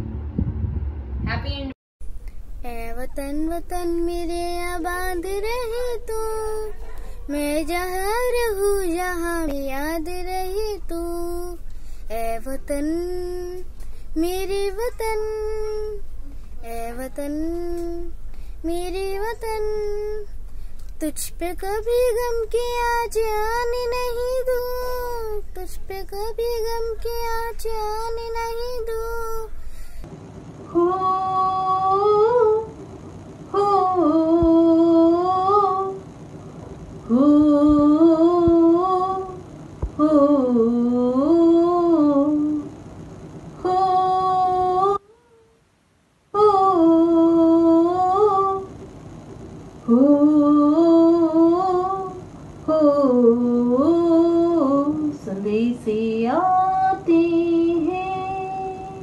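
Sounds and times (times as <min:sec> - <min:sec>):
woman singing unaccompanied: 0:02.3 - 0:30.0, 0:30.7 - 0:32.8, 0:33.5 - 0:36.1, 0:37.0 - 0:42.8, 0:43.6 - 0:45.6, 0:46.3 - 0:48.8, 0:49.9 - 0:59.0.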